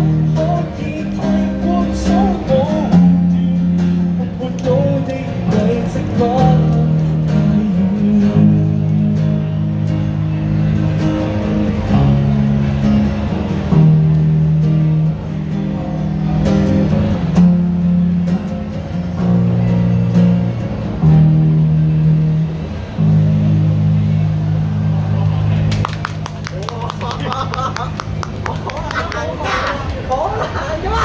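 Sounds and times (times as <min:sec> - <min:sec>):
strummed guitar chords: 0:00.0 - 0:30.0.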